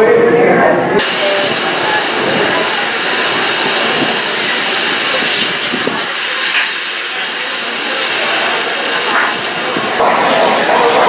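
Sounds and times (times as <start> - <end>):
cutting torch hissing: 1.0 - 11.0.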